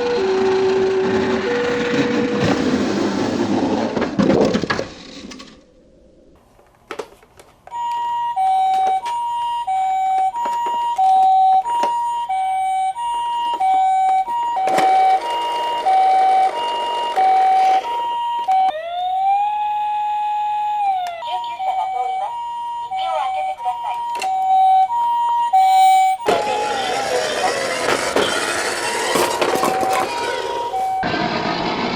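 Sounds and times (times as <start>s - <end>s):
two-tone ambulance siren: 0.0s - 3.6s, 7.7s - 31.9s
wailing siren: 0.0s - 3.6s, 7.7s - 31.9s.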